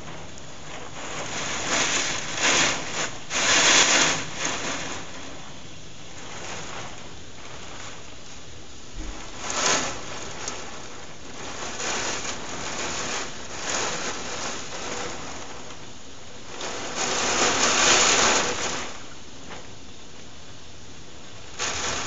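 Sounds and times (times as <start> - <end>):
heavy rain: 0.0 - 19.8, 21.2 - 22.0.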